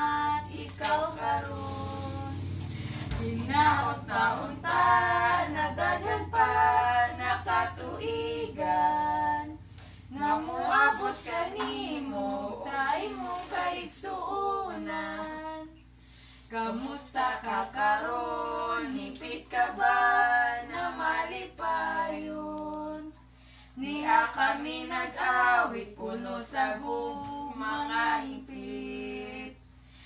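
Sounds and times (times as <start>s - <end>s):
women singing together: 0.0s - 29.8s.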